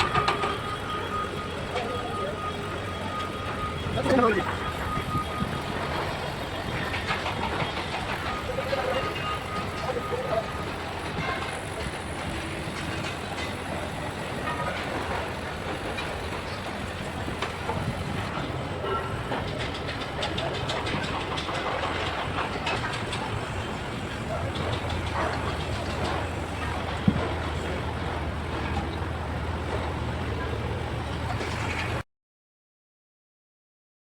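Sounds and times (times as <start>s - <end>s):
heavy machinery running: 0.0s - 32.0s.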